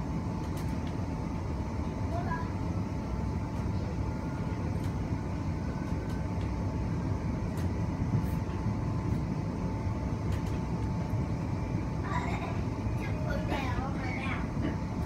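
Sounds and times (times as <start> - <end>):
steady high hum: 0.0 - 15.0.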